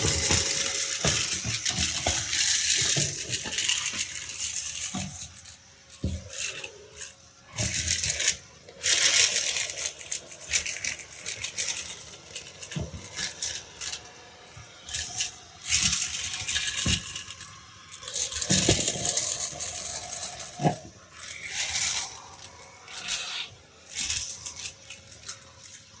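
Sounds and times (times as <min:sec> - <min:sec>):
beads rattling in vacuum: 0:00.0 - 0:26.0.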